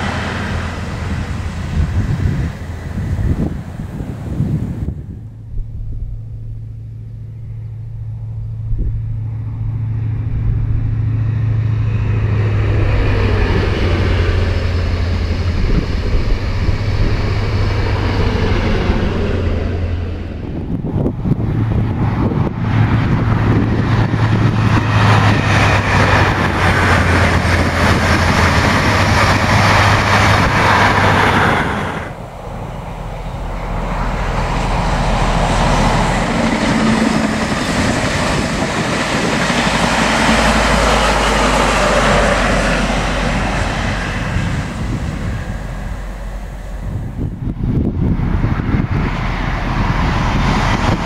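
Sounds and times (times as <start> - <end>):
train coaches rushing on rails: 0.0 - 5.2, 10.9 - 51.0
diesel train engine drone: 0.0 - 51.0.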